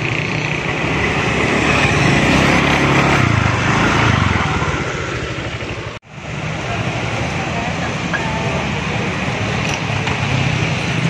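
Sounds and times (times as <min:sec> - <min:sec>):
road noise: 0:00.0 - 0:11.0
wind: 0:00.0 - 0:11.0.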